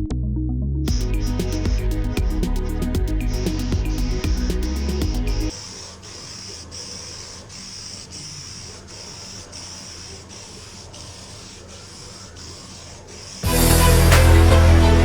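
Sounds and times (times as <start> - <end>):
hand sanding metal: 0.9 - 14.0.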